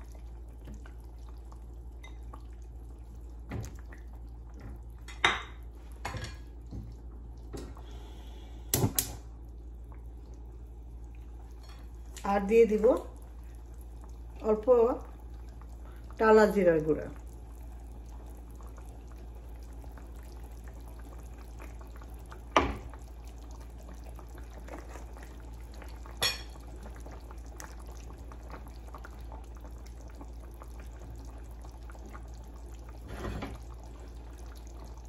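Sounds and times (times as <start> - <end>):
curry bubbling: 0.0 - 35.0.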